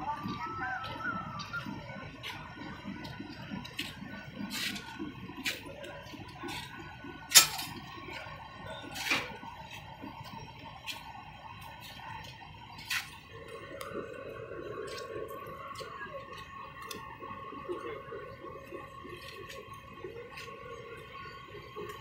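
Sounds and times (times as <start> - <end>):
diesel locomotive engine running: 0.0 - 22.0.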